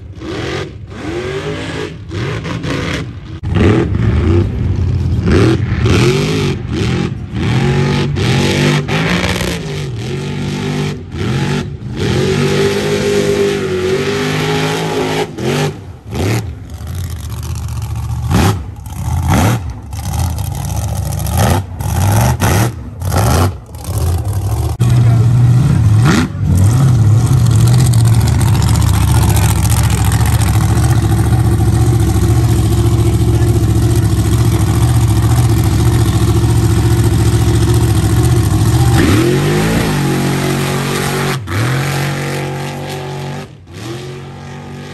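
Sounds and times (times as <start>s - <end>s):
truck engine running loudly: 0.0s - 44.9s
truck engines revving hard: 0.0s - 44.9s.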